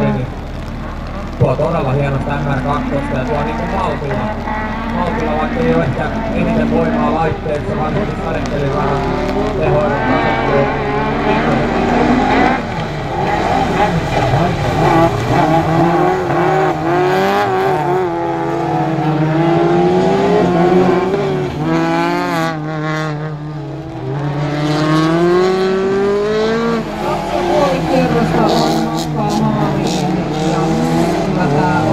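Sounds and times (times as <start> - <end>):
car engines revving hard: 0.0 - 31.9.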